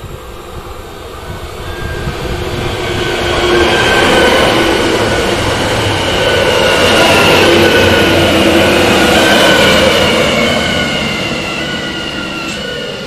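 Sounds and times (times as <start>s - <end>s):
steady train whine: 0.0s - 13.0s
train wheels rumbling on rails: 0.0s - 13.0s.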